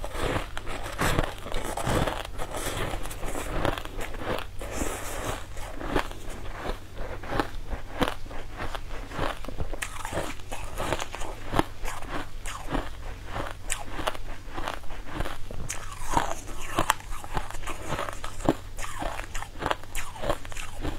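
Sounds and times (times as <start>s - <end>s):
chewing crunchy food: 0.0s - 20.9s.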